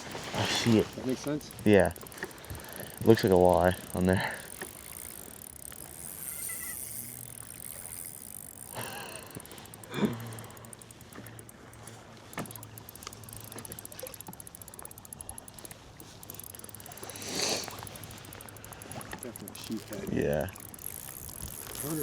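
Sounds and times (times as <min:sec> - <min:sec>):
rough water: 0:00.0 - 0:22.0
wind: 0:00.0 - 0:22.0
small click: 0:00.6 - 0:22.0
low hum: 0:01.0 - 0:22.0.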